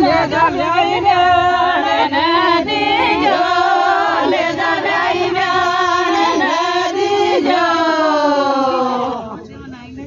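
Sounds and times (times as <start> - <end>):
women singing together: 0.0 - 9.4.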